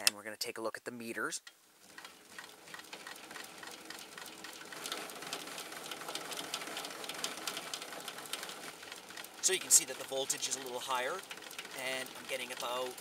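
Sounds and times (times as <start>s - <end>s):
hand-crank generator rattling: 1.8s - 13.0s.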